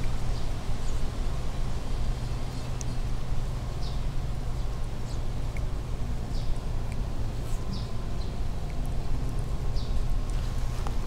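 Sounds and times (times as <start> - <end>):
small birds chirping: 1.8 - 11.0.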